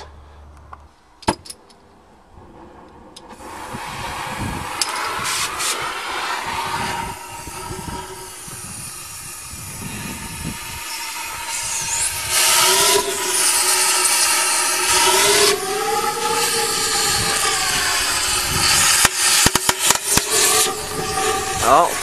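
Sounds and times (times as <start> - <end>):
gas cutting torch hissing: 3.3 - 22.0.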